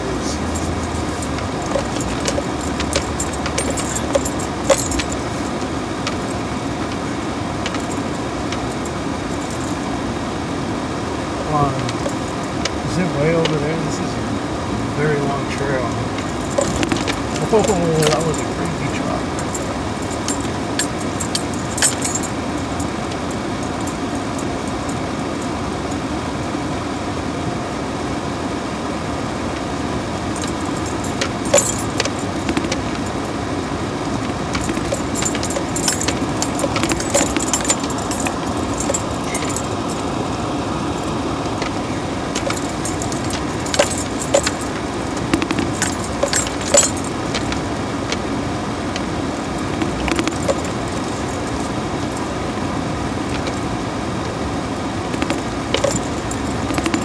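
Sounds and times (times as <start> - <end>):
truck engine and tyres on gravel: 0.0 - 10.4, 11.1 - 27.1, 29.3 - 57.0
clinking and rattling: 0.6 - 10.0, 11.6 - 15.0, 16.1 - 26.5, 29.6 - 48.2, 49.0 - 52.4, 53.3 - 53.7, 55.1 - 57.0.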